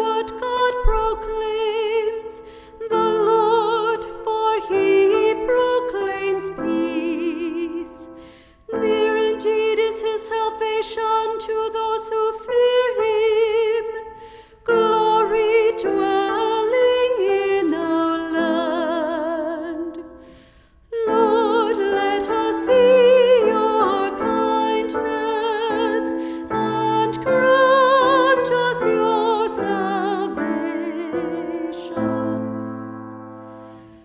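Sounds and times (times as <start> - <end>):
person singing with vibrato: 0.0 - 34.0.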